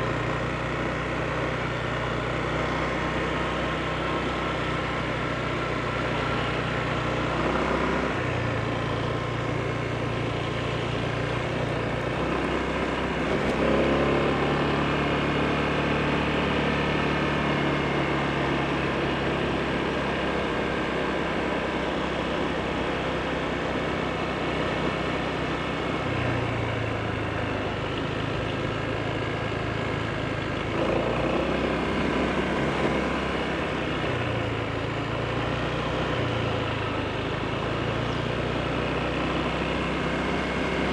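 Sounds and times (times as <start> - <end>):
scooter engine running: 0.0 - 40.9.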